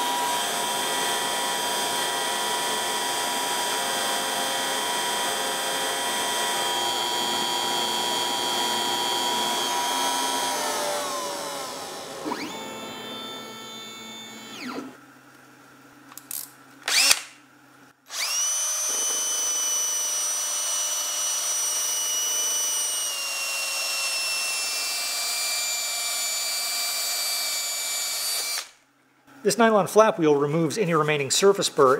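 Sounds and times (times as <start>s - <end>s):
cordless drill spinning flap wheel: 0.0s - 15.0s, 16.9s - 17.2s, 18.1s - 28.7s
router spindle spinning: 0.0s - 15.0s, 16.9s - 17.2s, 18.1s - 28.7s.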